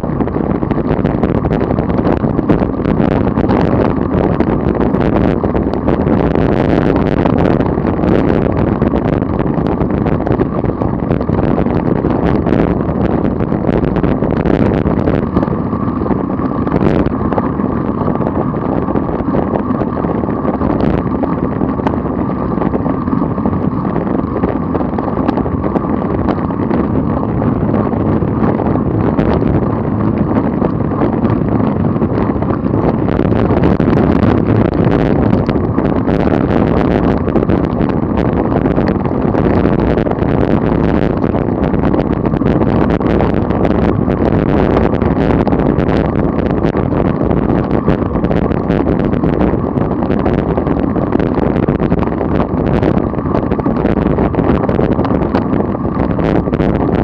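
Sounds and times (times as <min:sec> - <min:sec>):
road noise: 0:00.0 - 0:57.0
vehicle engine cruising: 0:00.0 - 0:57.0
wind rushing over microphone: 0:00.0 - 0:57.0.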